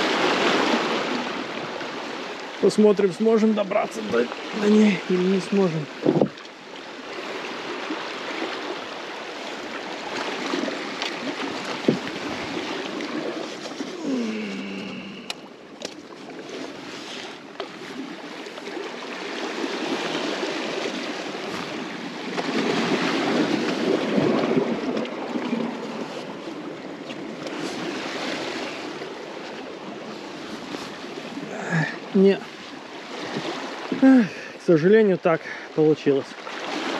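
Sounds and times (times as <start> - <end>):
sea water surging against rocks: 0.0 - 36.9.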